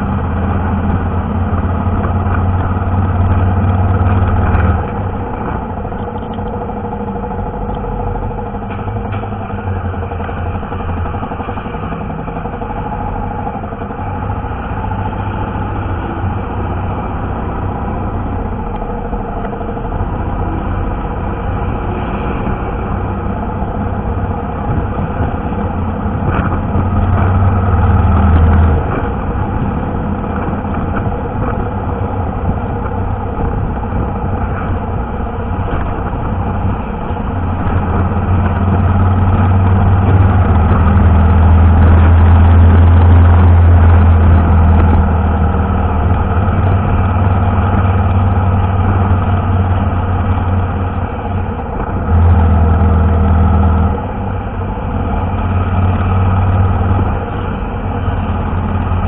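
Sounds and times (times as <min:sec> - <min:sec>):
motorcycle engine drone: 0:00.0 - 0:59.0
road noise: 0:00.0 - 0:59.0.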